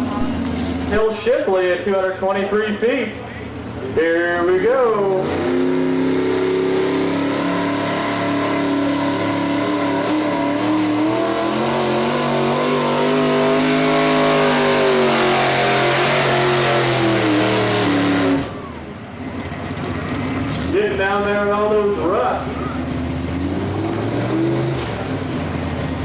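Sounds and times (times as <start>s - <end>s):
truck engine running at high revs: 0.0s - 26.0s.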